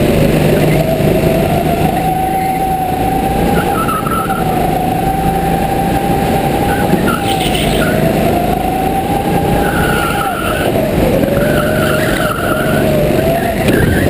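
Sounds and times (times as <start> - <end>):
go-kart engine revving: 0.0 - 14.0.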